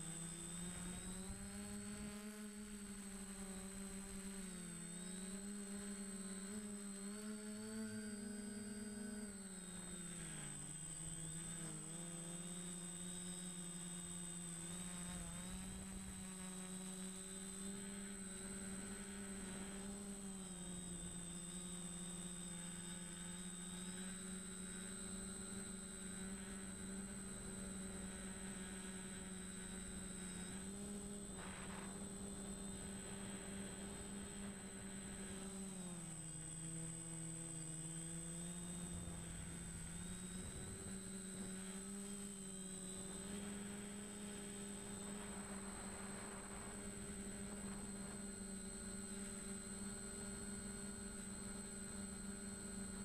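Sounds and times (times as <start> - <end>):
drone propellers humming: 0.0 - 53.0.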